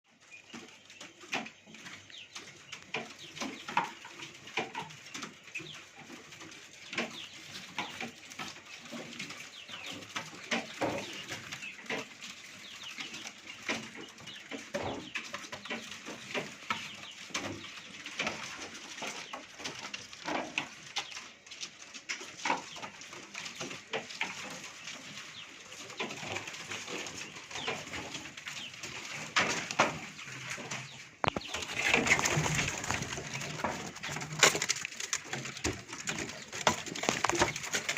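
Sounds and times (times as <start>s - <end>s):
caged birds chirping and calling: 0.1s - 37.9s
scratchy knocks and rustles: 0.1s - 37.9s.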